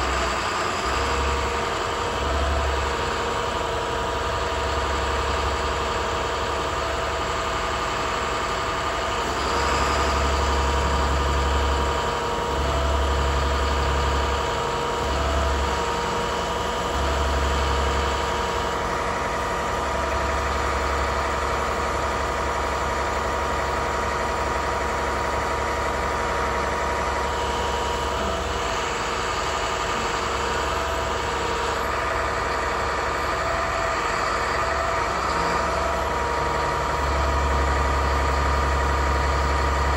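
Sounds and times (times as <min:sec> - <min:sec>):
diesel truck engine running: 0:00.0 - 0:39.9
hydraulics humming: 0:00.0 - 0:39.9.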